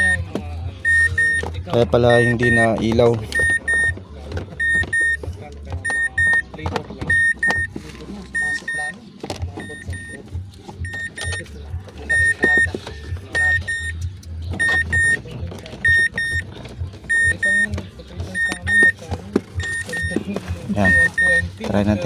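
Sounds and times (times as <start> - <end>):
car alarm double beeps: 0.0 - 9.0, 9.6 - 19.0, 19.6 - 22.0.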